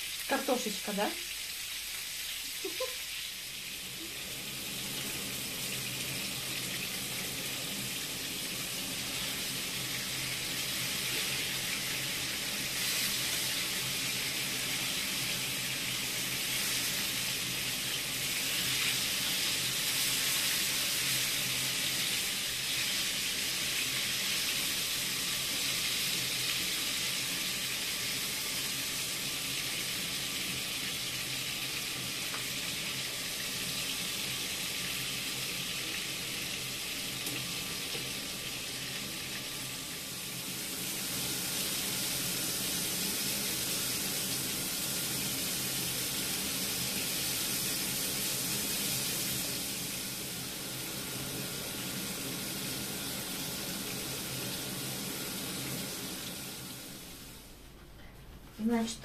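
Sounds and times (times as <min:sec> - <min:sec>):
meat sizzling in frying pan: 0:00.0 - 0:57.6.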